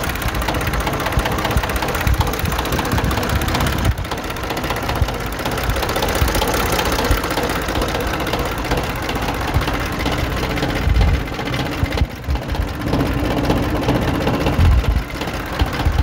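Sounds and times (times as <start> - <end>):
tractor diesel engine clattering: 0.0 - 16.0.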